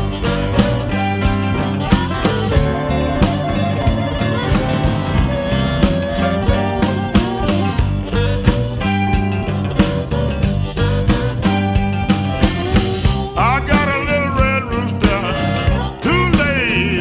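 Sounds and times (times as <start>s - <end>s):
bass guitar: 0.0s - 17.0s
electric guitar with bending notes: 0.0s - 17.0s
steady drum beat: 0.0s - 17.0s.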